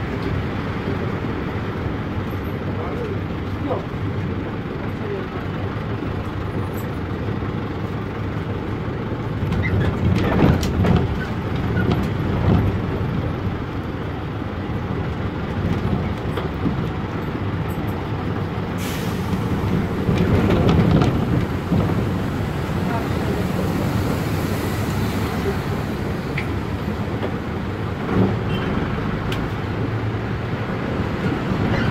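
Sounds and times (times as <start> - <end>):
diesel engine running: 0.0 - 31.9
road noise: 0.0 - 31.9.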